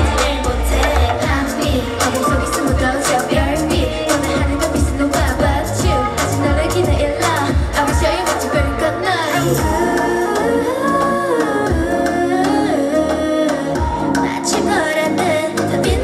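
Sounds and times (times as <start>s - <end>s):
pop song over loud pa: 0.0s - 16.0s.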